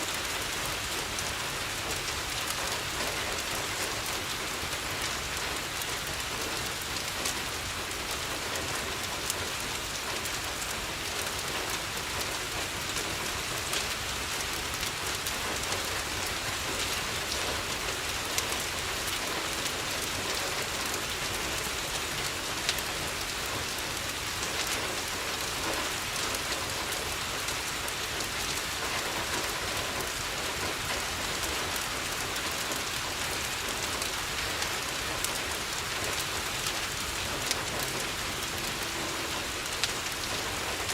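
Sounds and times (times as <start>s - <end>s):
rain on a window: 0.0s - 40.9s
wood fire crackling: 0.1s - 40.9s.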